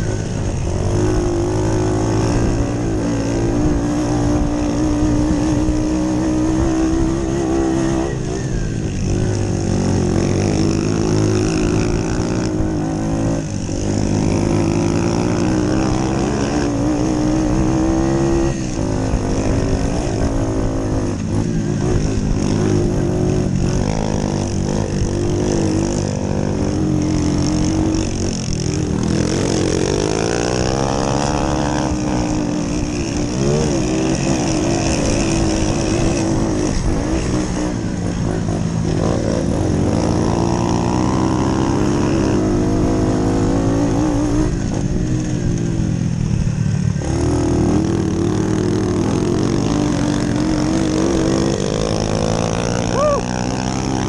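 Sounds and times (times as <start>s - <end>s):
moped engine revving: 0.0s - 54.0s.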